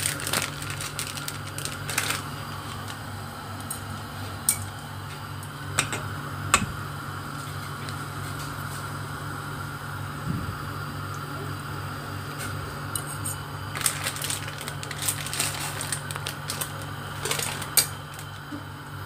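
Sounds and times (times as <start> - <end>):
noodles boiling in water: 0.0 - 19.0
steady low hum: 0.0 - 19.0.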